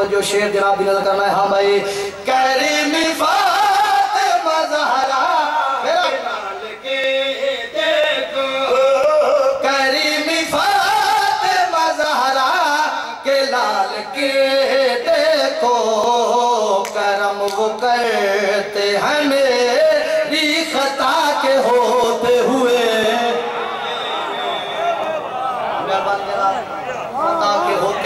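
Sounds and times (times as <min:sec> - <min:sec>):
man chanting: 0:00.0 - 0:23.5, 0:25.8 - 0:28.0.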